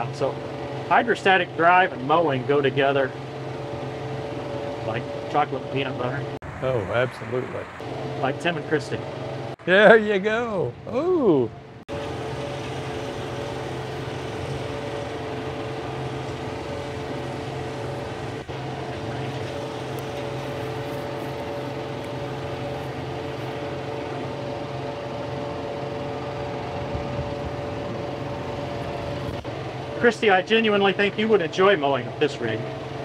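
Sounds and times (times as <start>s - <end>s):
tractor and mower running: 0.0s - 6.5s, 7.3s - 10.0s, 11.6s - 33.0s.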